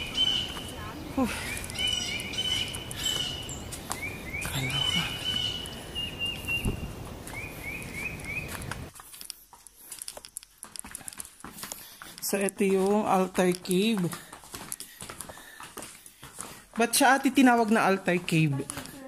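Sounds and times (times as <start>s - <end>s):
footsteps on trail: 0.0s - 19.0s.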